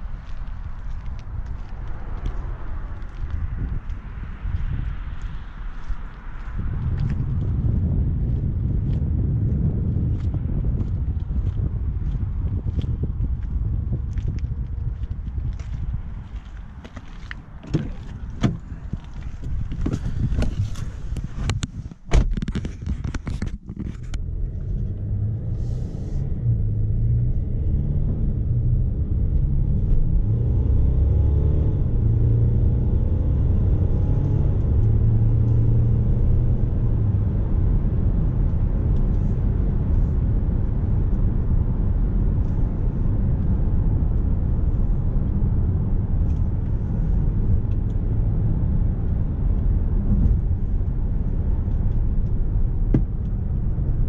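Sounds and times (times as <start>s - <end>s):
engine and tyre rumble in car cabin: 0.0s - 54.0s.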